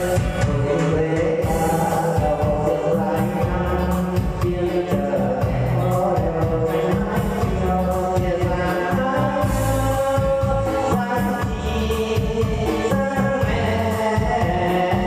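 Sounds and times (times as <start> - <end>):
music with steady beat and bass: 0.0 - 15.0.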